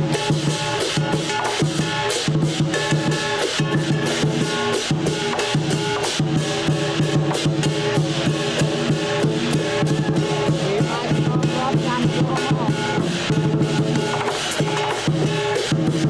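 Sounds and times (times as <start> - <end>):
clashing cymbals: 0.0 - 16.0
drum beating fast: 0.0 - 16.0.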